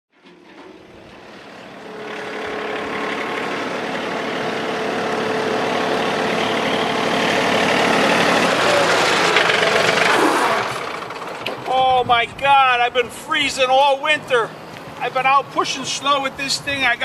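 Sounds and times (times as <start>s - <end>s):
tractor diesel engine running: 0.1s - 17.0s.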